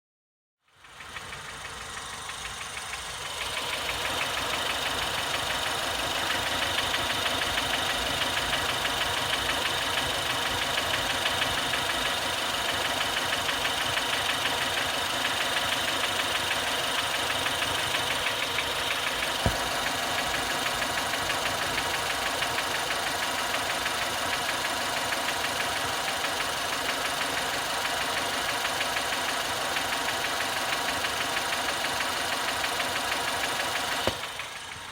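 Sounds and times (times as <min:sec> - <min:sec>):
engine knocking: 0:00.6 - 0:34.9
car engine idling: 0:00.7 - 0:34.9.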